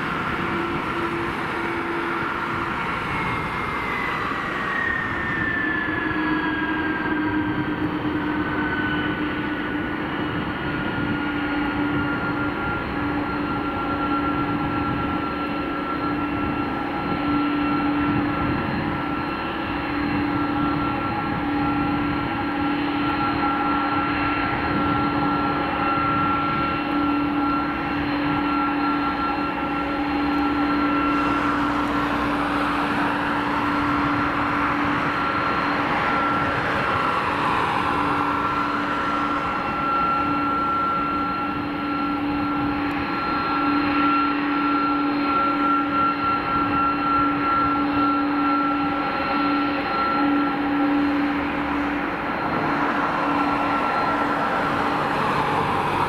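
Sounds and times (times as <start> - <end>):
jet engine whine: 0.0 - 56.0.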